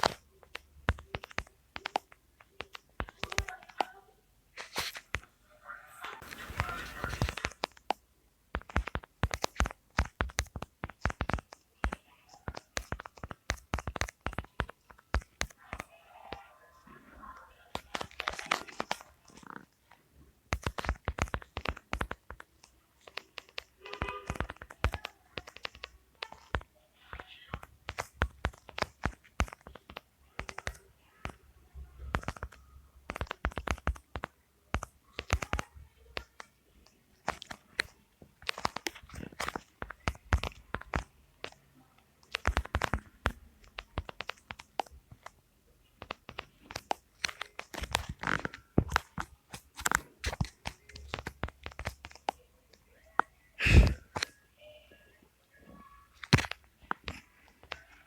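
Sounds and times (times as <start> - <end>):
sharp clicks and taps: 0.0 - 4.0, 6.2 - 54.4, 55.8 - 58.0.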